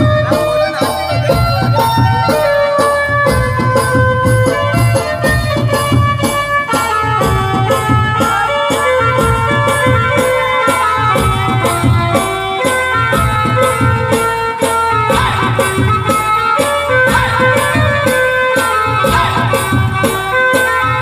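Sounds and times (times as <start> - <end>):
dance music with fast drumbeat: 0.0 - 21.0.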